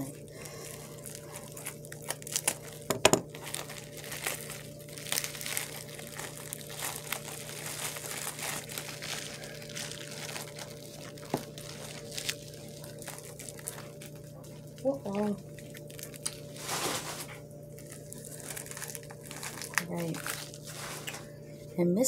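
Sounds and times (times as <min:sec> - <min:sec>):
bubble wrap crinkling: 0:00.0 - 0:21.7
faint steady hum: 0:00.0 - 0:22.0.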